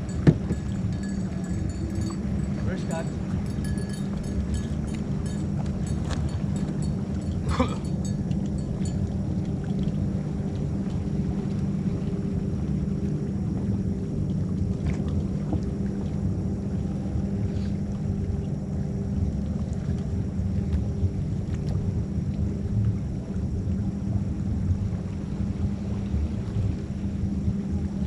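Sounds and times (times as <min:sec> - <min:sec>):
faint even hum: 0:00.0 - 0:28.0
steady low rumble: 0:00.0 - 0:28.0.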